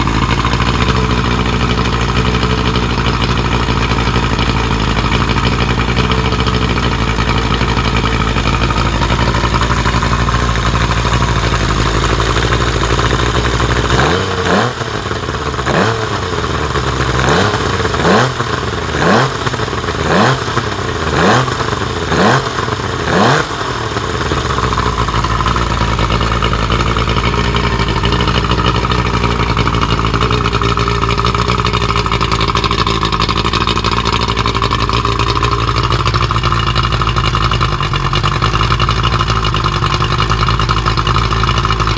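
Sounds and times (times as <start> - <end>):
outboard motor revving: 0.0 - 41.9
outboard motor running: 0.0 - 41.9.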